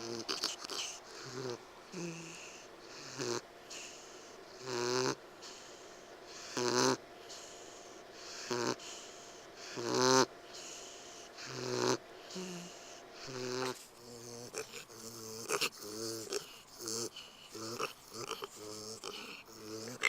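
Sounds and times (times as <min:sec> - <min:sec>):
piglet wheezing breaths: 0:00.0 - 0:20.0.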